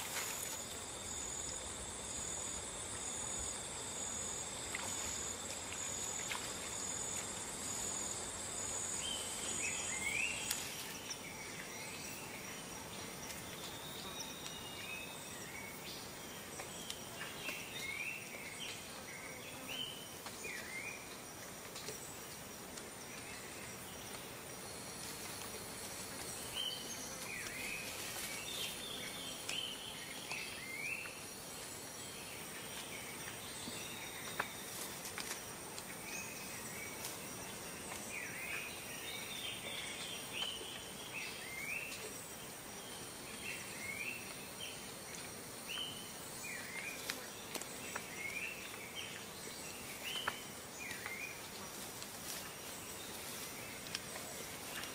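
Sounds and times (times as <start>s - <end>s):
high drone of insects: 0.0s - 54.9s.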